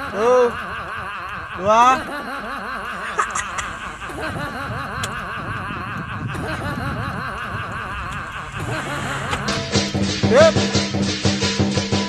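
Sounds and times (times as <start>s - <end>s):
comic high giggling: 0.0s - 10.6s.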